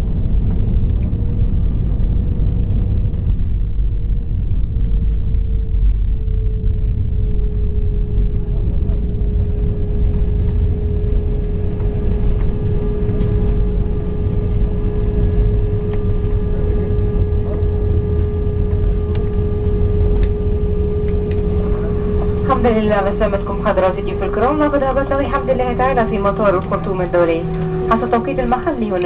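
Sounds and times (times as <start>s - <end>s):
airplane cabin rumble: 0.0s - 29.0s
steady engine whine: 0.0s - 29.0s.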